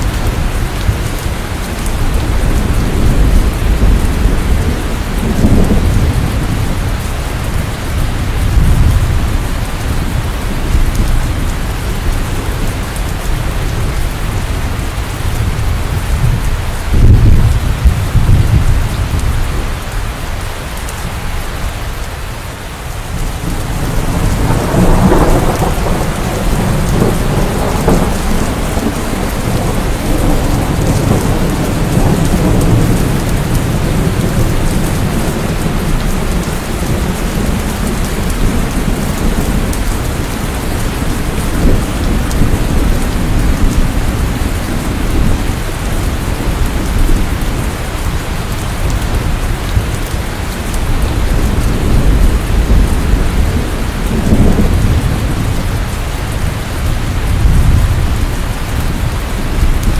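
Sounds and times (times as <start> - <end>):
steady rain: 0.0 - 59.9
thunder rumbling: 0.0 - 59.9.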